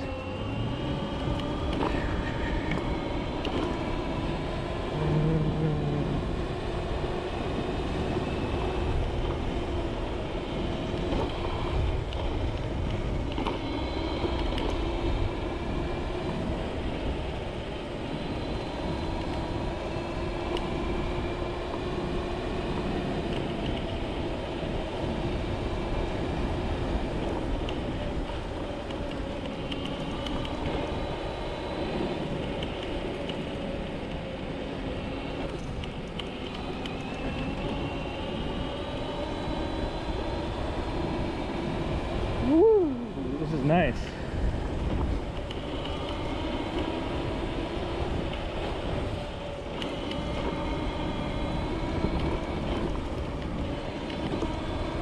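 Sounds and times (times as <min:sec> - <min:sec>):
electric motor whine: 0:00.0 - 0:55.0
rush of wind: 0:00.0 - 0:55.0.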